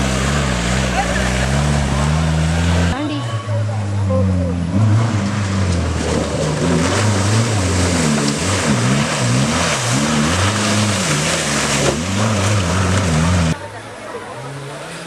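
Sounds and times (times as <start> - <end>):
off-road vehicle engine revving: 0.0 - 13.6.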